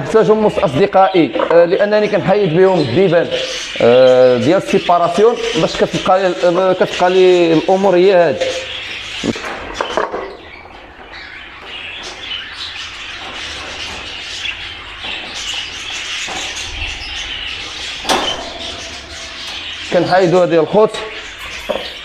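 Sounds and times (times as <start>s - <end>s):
budgerigars chattering and chirping: 0.0s - 22.0s.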